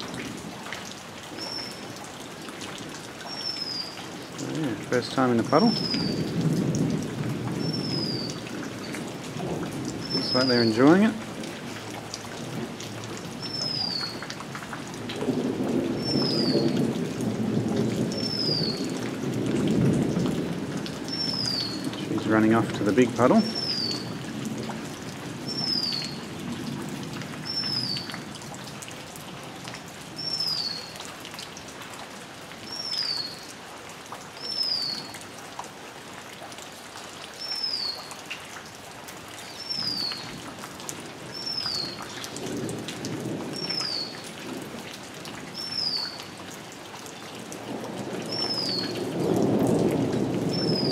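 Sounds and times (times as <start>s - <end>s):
rain falling on grass: 0.0s - 50.9s.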